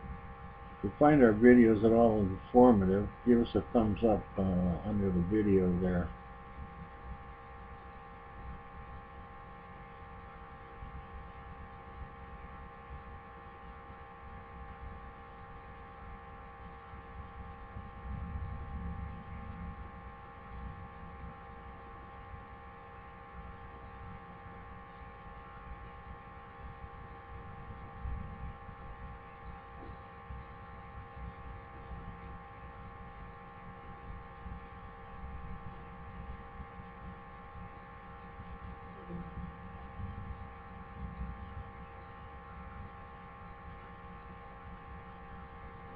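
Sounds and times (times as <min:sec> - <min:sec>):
steady tonal hum: 0:00.0 - 0:45.9.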